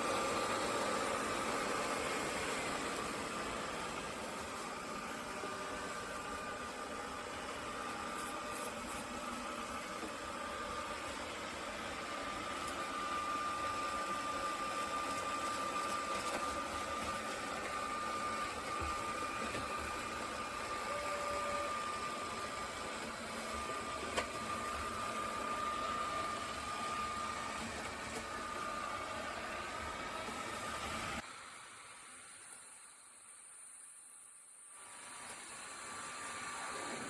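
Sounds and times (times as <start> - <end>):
robot vacuum running: 0.0 - 32.8, 34.8 - 37.0.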